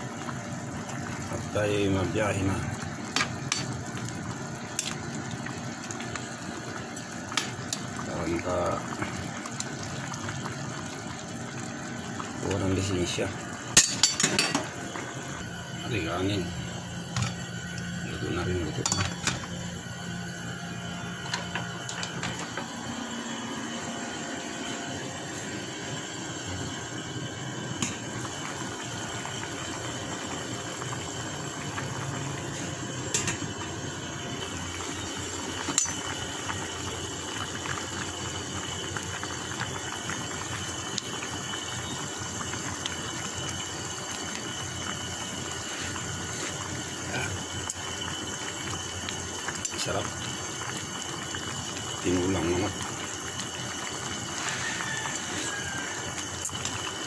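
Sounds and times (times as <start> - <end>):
soup boiling in a pot: 0.0 - 57.0.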